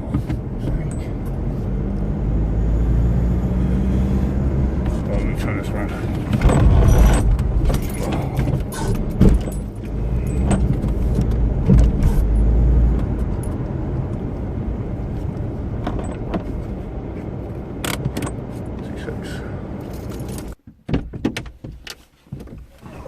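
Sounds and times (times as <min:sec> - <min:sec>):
road noise: 0:00.0 - 0:20.7
car engine rumble: 0:00.0 - 0:23.0.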